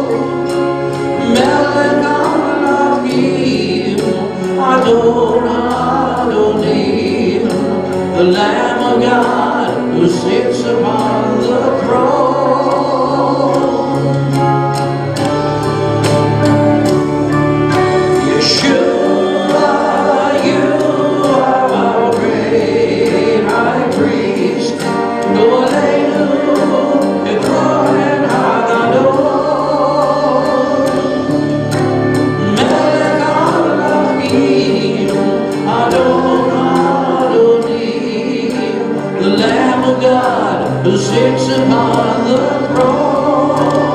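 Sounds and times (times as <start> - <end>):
band with drum beat: 0.0 - 43.9
choir and congregation singing: 0.0 - 43.9.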